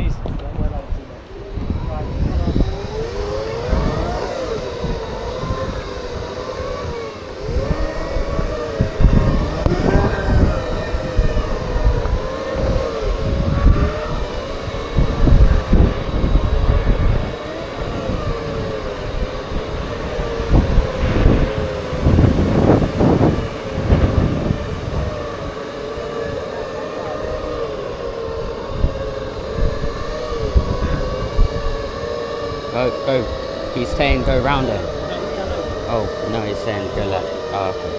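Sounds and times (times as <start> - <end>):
electric motors whining: 0.0 - 37.9
wind buffeting microphone: 0.0 - 37.9.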